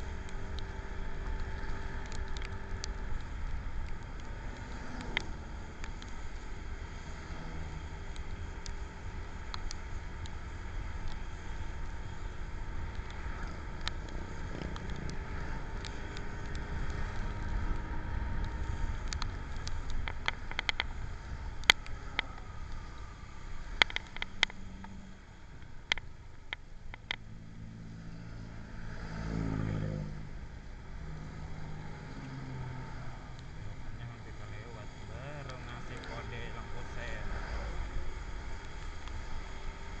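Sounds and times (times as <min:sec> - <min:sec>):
passing engine: 0:00.0 - 0:26.1, 0:26.8 - 0:40.0
vehicle engine rumble: 0:00.0 - 0:40.0.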